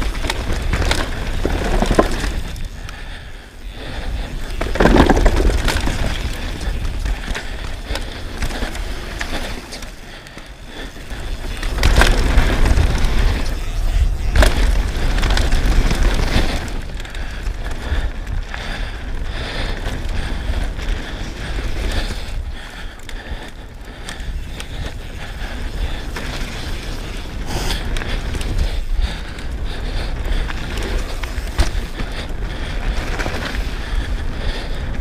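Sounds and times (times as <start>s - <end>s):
bike rattling: 0.0s - 35.0s
tyres rolling over dirt: 0.0s - 35.0s
wind buffeting camera: 0.0s - 35.0s.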